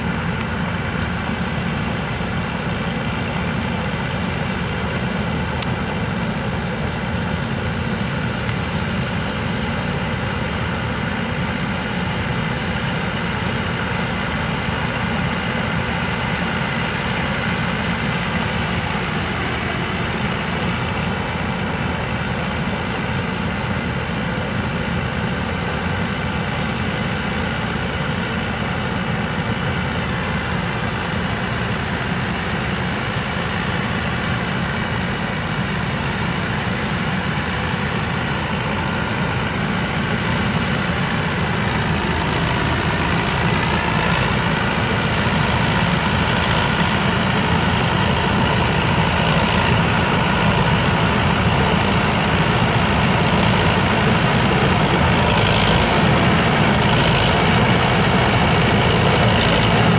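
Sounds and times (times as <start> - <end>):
combine harvester drone: 0.0 - 59.9.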